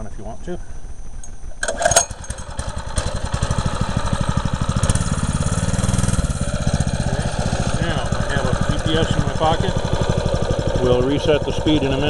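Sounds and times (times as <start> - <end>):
recoil starter pull: 1.6 - 12.0
small engine idling: 1.6 - 12.0.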